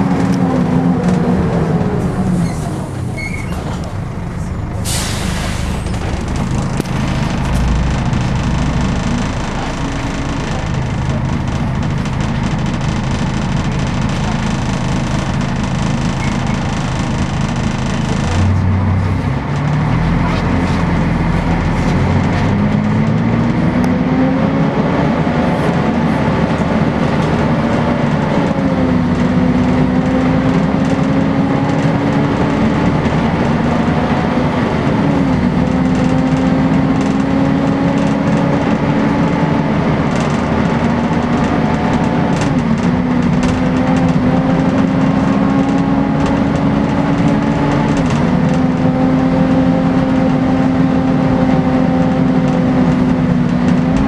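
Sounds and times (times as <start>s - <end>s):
bus diesel engine drone: 0.0s - 54.0s
steady road roar: 0.0s - 54.0s.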